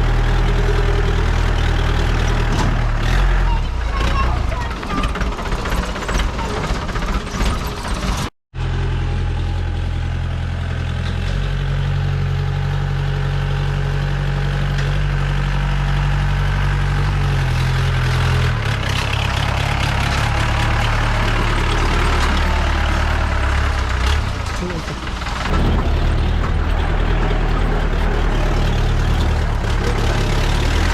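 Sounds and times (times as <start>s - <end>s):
engine running with low hum: 0.0s - 30.9s.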